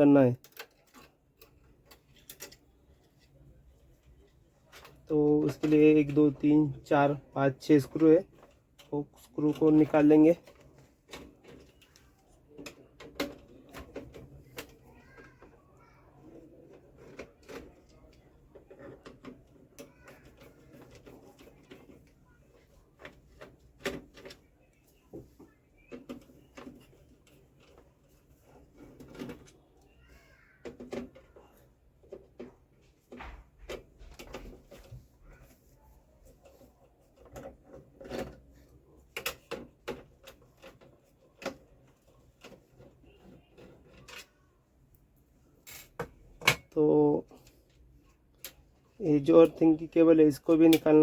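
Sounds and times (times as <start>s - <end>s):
plastic and metal parts clicking: 0.0s - 15.6s, 16.2s - 51.0s.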